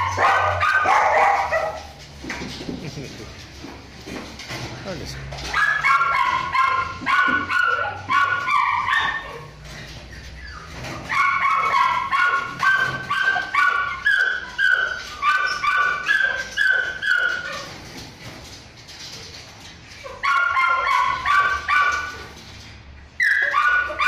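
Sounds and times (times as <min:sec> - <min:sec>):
dogs yelping and whining: 0:00.0 - 0:02.3, 0:05.4 - 0:24.0.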